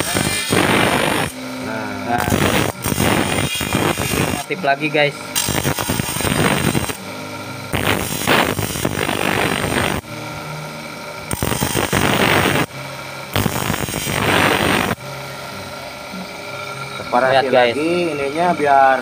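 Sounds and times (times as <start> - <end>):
grinder disc grinding metal: 0.0 - 15.4
grinder motor running: 0.0 - 19.0.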